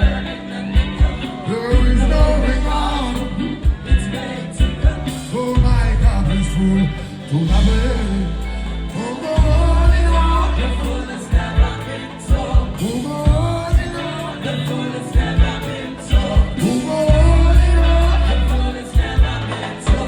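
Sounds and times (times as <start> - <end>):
live reggae band: 0.0 - 20.0
person singing: 0.0 - 20.0.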